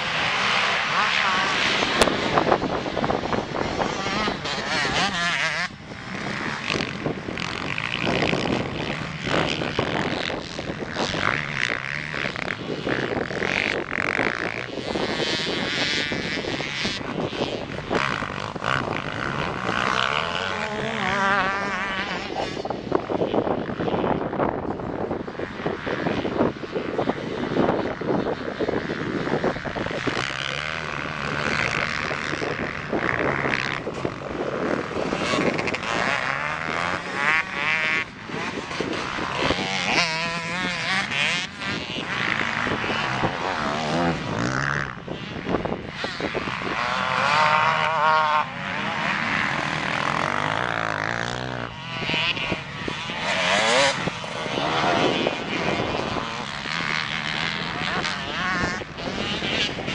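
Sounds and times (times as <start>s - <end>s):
motocross bikes revving: 0.0s - 59.9s.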